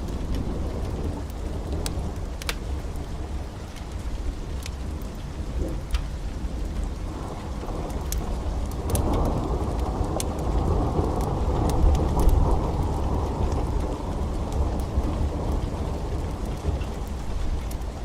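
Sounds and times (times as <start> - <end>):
pouring rain: 0.0 - 18.0
sharp crackles: 0.0 - 18.0
thunder rumble: 0.0 - 18.0.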